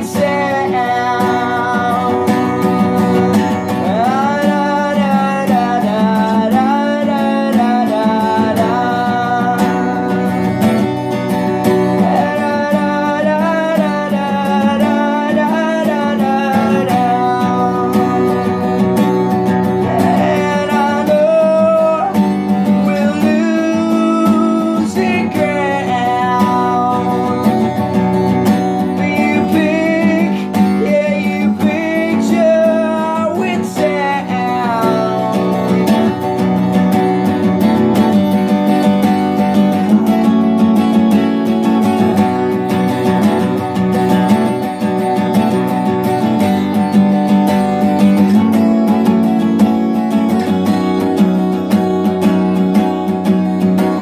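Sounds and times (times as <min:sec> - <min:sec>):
man singing: 0:00.0 - 0:46.6
acoustic guitar strumming: 0:00.0 - 0:54.0.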